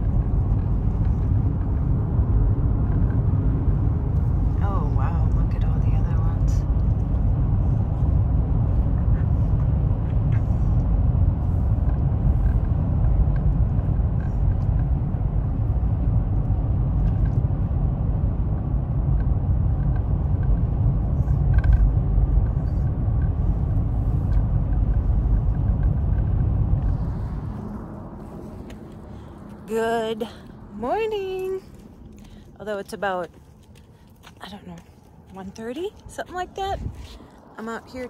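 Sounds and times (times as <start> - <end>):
road and engine rumble in vehicle: 0.0 - 38.0.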